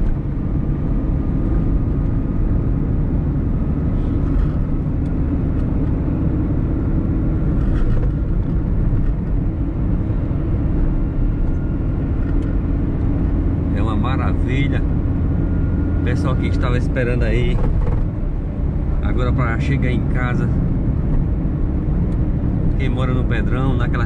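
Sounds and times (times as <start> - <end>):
car engine hum and tyre rumble: 0.0 - 24.0
faint steady whine: 0.0 - 24.0.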